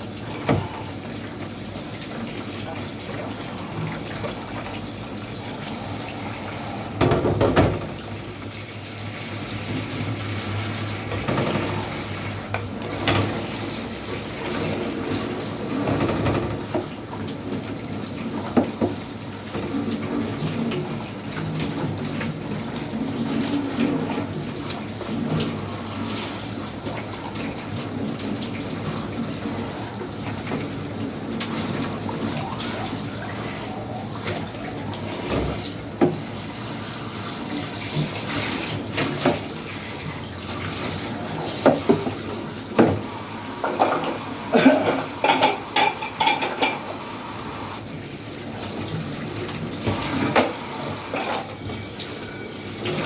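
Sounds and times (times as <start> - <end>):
tap water running: 0.0 - 53.0.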